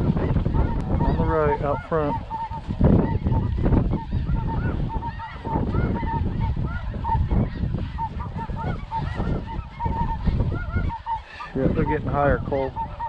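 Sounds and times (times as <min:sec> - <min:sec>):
flock of geese calling: 0:00.0 - 0:13.0
wind rumble on microphone: 0:00.0 - 0:13.0.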